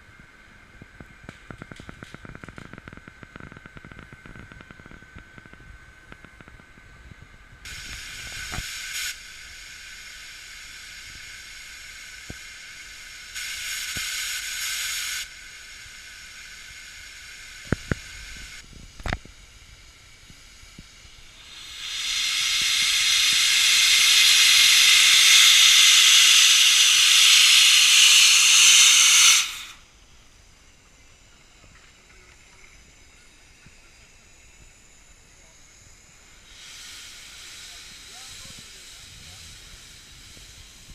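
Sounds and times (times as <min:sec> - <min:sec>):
steam locomotive hissing: 0:07.0 - 0:40.9.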